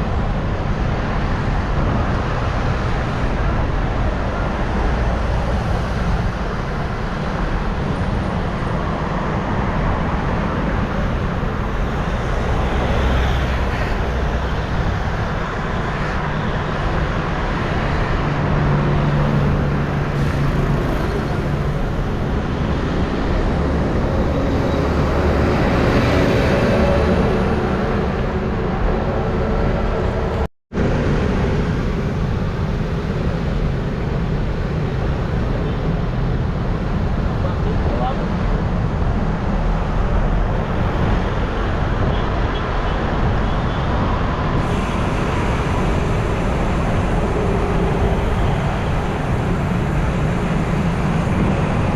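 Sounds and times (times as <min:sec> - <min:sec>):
road traffic passing: 0:00.0 - 0:51.9
wind rumble on microphone: 0:00.0 - 0:51.9.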